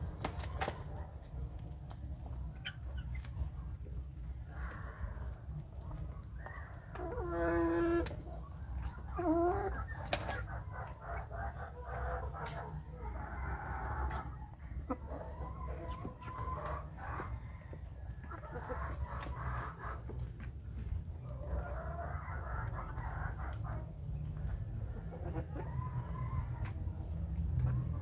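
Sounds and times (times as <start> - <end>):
young chickens clucking: 0.0 - 28.0.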